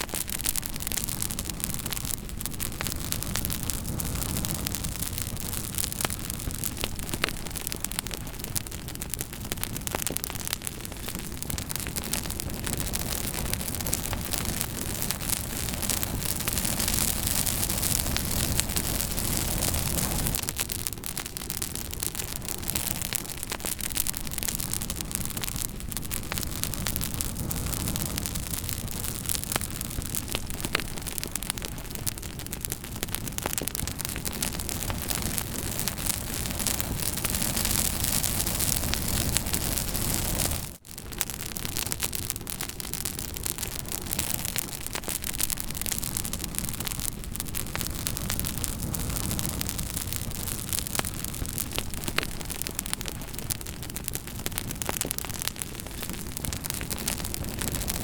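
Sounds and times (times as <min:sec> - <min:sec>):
burning wood crackling and popping: 0:00.0 - 0:58.0
campfire flames hissing: 0:00.0 - 0:58.0.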